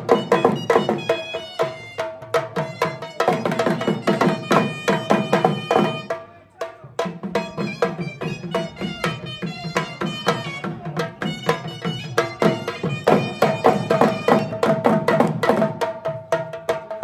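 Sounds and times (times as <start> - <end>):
drum beaten in fast rhythm: 0.0 - 17.0.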